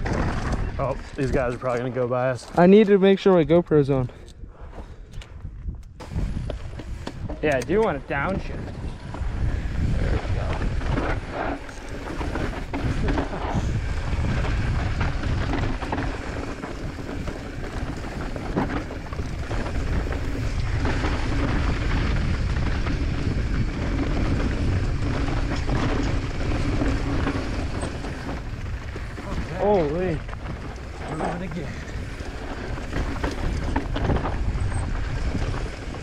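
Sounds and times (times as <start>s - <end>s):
wind buffeting microphone: 0.0s - 2.3s, 3.2s - 36.0s
bike tyres and frame rattling: 0.0s - 36.0s.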